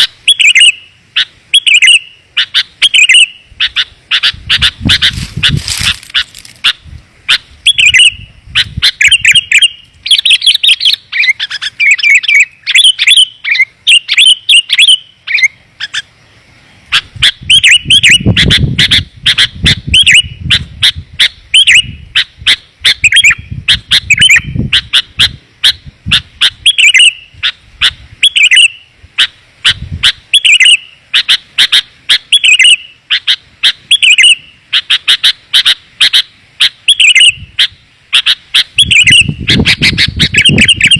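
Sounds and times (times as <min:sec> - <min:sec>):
rapid bird chirps: 0:00.0 - 0:40.9.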